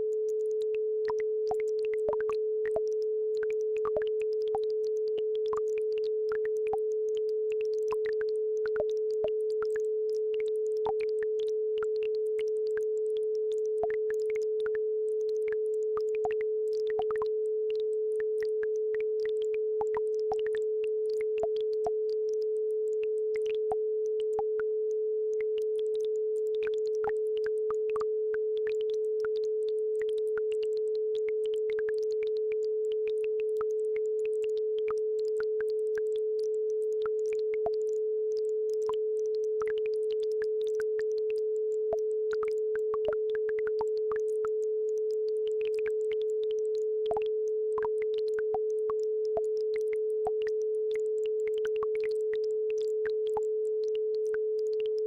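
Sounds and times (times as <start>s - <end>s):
steady sine tone: 0.0s - 55.0s.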